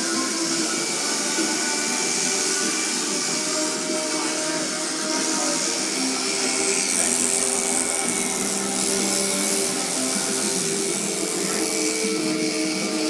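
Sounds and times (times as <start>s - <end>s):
electric shears buzzing: 0.0s - 13.0s.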